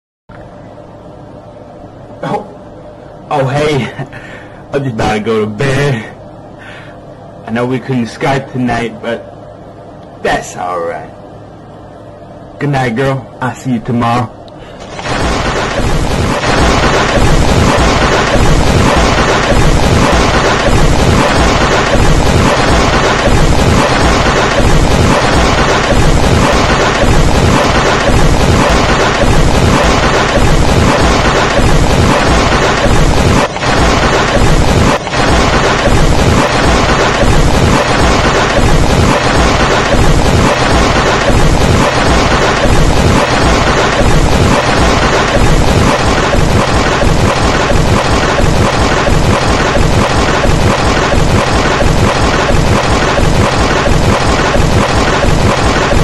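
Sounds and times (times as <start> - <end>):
loud pulsing distorted noise: 3.3 - 9.2, 12.6 - 56.0.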